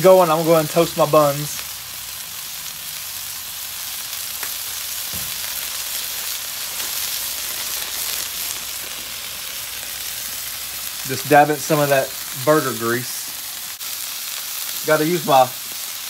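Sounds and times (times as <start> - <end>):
patties sizzling on a griddle: 0.0 - 16.0.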